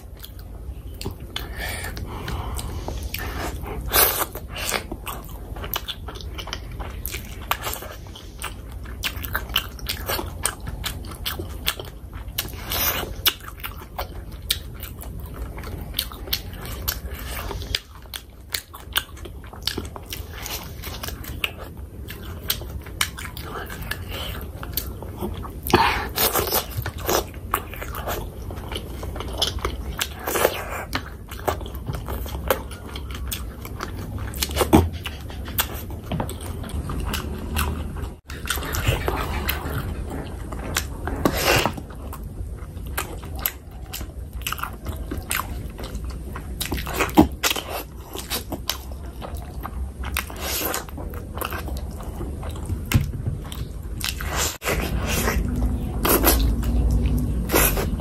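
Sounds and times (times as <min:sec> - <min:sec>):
chewing and wet mouth sounds: 0:00.0 - 0:58.0.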